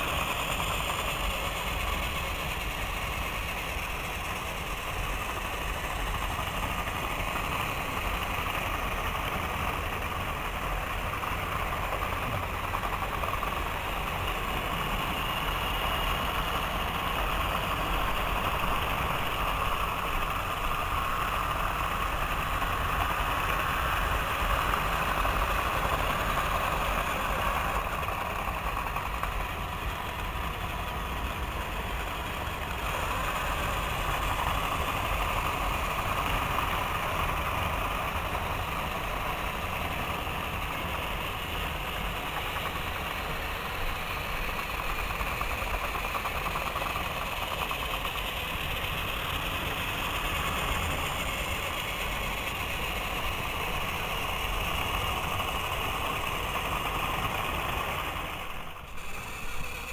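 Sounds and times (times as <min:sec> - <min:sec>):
toy train motors whirring: 0:00.0 - 0:59.9
wheels rattling on track: 0:00.0 - 0:59.9.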